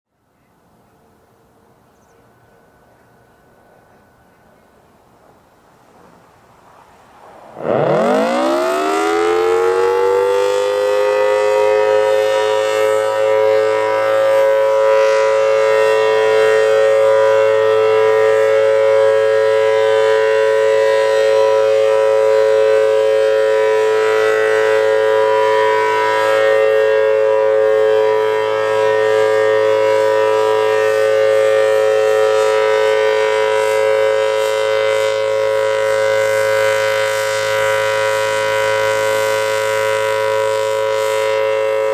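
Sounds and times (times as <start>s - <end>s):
warning siren steady two-note chord: 7.5s - 41.9s.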